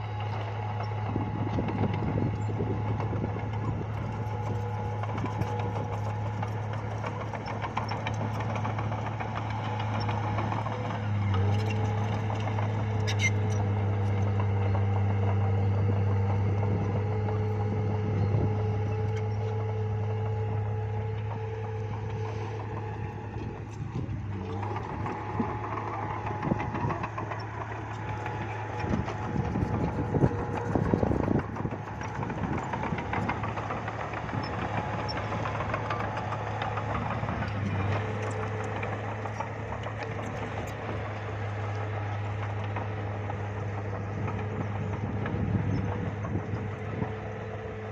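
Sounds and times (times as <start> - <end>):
bulldozer diesel engine: 0.0 - 47.9.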